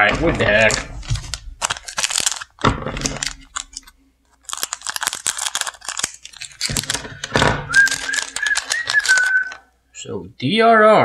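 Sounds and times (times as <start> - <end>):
scissors snipping foil: 0.0 - 9.6
foil wrapper crinkling: 0.0 - 9.7.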